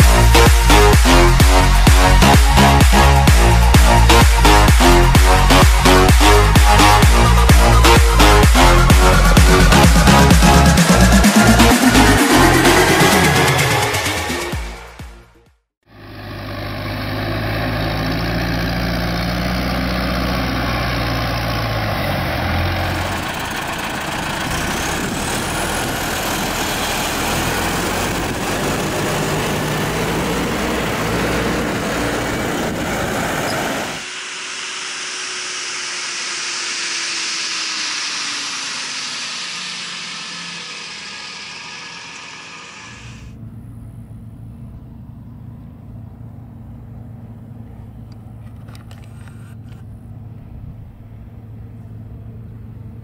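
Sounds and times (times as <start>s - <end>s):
tractor diesel engines running: 0.0s - 15.0s, 15.8s - 53.0s.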